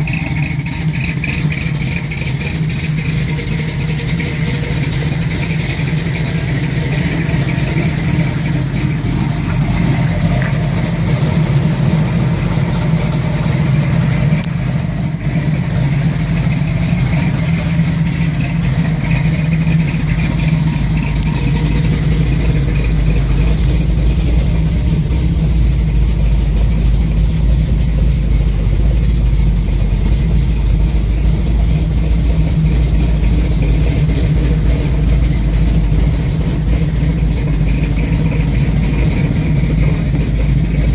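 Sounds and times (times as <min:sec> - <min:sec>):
engine idling roughly: 0:00.0 - 0:40.9.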